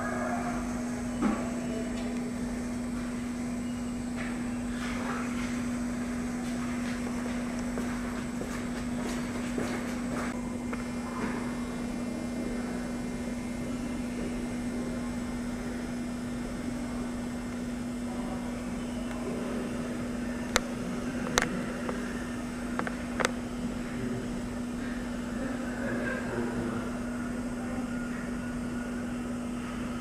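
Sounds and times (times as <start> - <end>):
ventilation system hum: 0.0 - 30.0.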